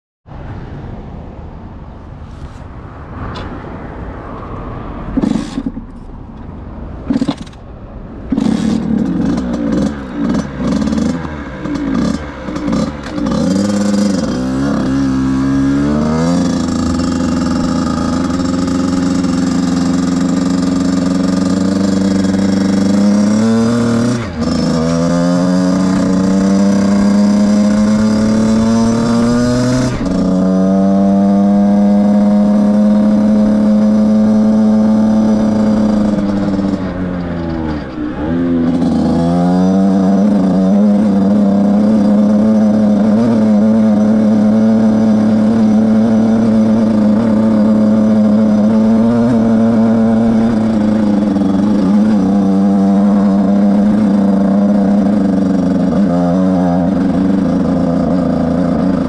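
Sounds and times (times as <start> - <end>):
two-stroke motorcycle engine revving: 5.2 - 5.9, 7.0 - 7.6, 8.2 - 59.0.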